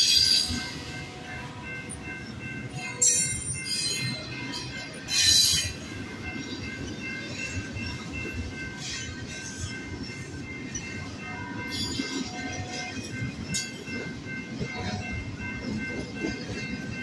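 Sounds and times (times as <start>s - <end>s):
freight train wheels rumbling: 0.0s - 17.0s
level crossing warning bell: 0.0s - 17.0s.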